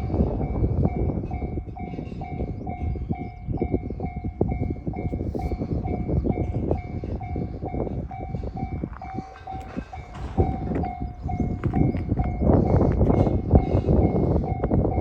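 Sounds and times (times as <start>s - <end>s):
level-crossing alarm bell ringing: 0.0s - 15.0s
train rumbling and clattering: 0.0s - 15.0s.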